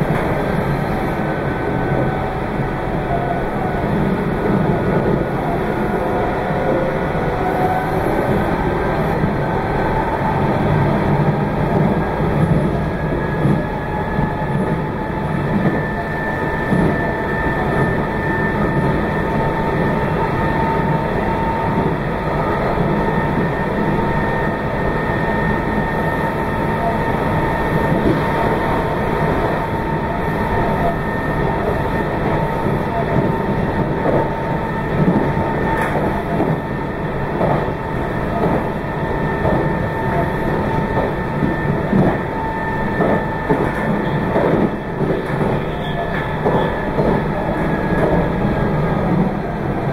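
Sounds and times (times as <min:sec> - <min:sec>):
electric train rumble and whine: 0:00.0 - 0:49.9.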